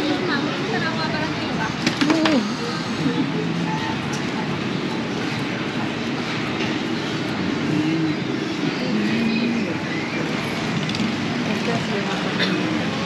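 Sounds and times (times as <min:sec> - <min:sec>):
faint voices: 0:00.0 - 0:13.0
traffic drone: 0:00.0 - 0:13.0.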